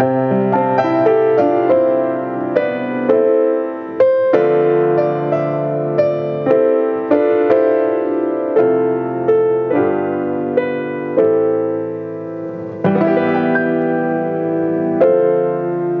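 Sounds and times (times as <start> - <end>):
grand piano playing slow chords: 0.0 - 16.0.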